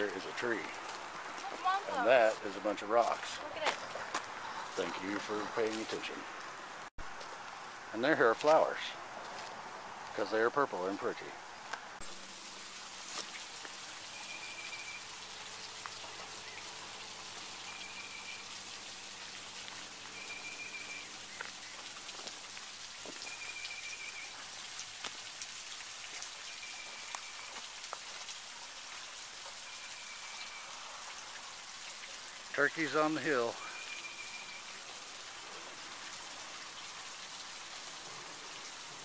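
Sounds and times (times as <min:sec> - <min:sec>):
water dripping and trickling: 0:00.0 - 0:39.0.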